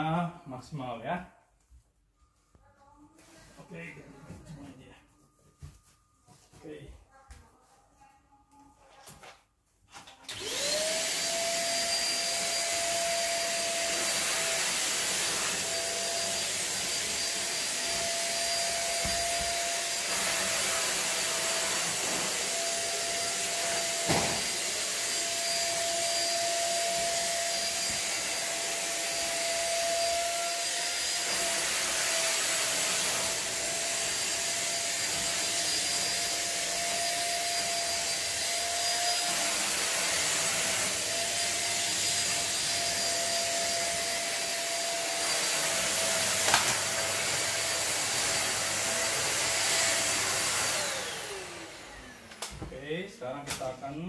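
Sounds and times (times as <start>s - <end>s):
vacuum cleaner whining: 9.9s - 54.0s.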